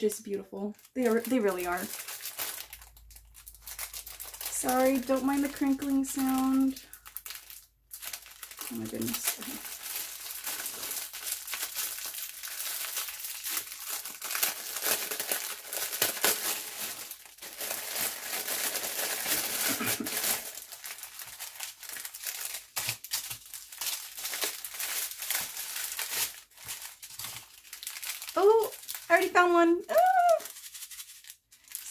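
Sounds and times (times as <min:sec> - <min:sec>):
plastic bag crinkling: 0:00.0 - 0:31.9.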